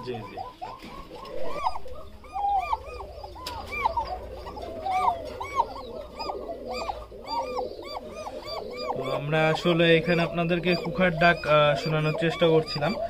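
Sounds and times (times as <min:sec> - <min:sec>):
pigeons calling: 0:00.0 - 0:13.0.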